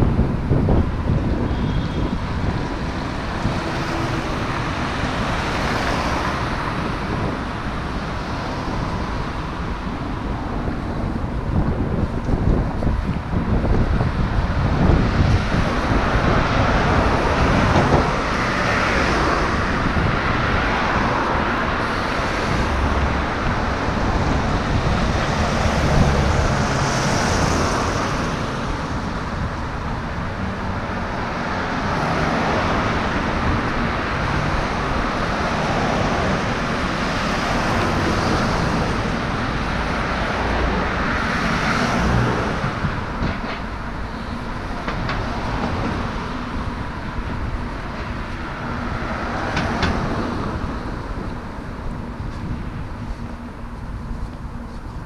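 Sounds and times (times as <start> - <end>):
cars passing on road: 0.0 - 55.0.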